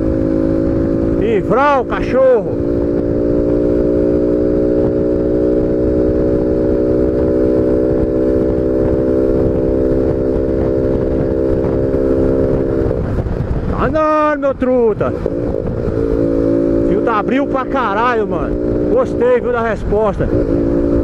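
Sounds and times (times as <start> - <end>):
wind noise on microphone: 0.0 - 1.4, 2.1 - 21.0
motorcycle engine running at high speed: 0.0 - 21.0.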